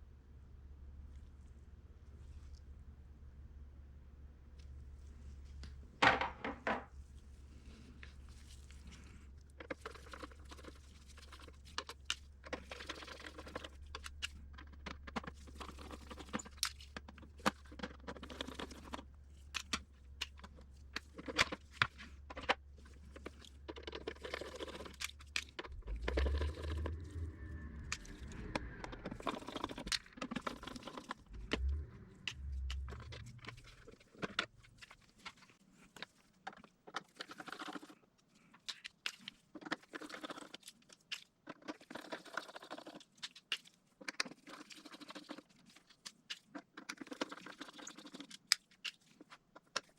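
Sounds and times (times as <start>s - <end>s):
plastic parts clicking and scraping: 7.9s - 49.9s.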